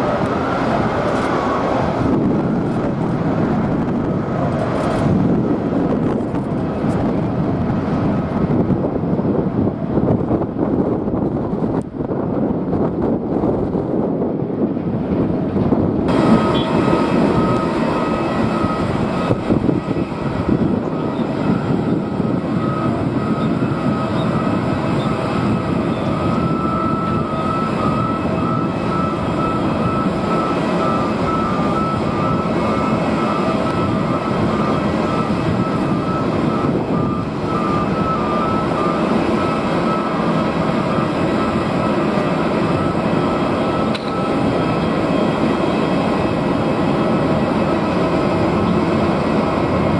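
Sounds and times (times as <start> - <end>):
jet engines running: 0.0 - 49.9.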